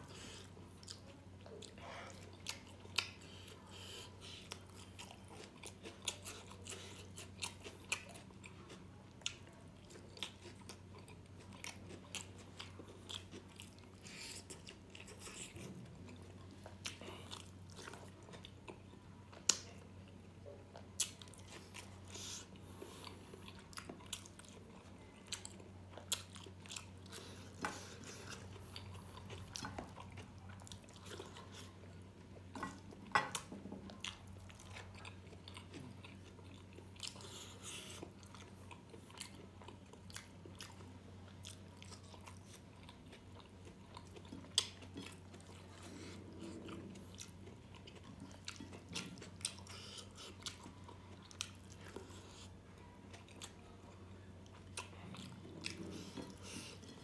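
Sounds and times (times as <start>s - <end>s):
person chewing and smacking: 0.1s - 57.0s.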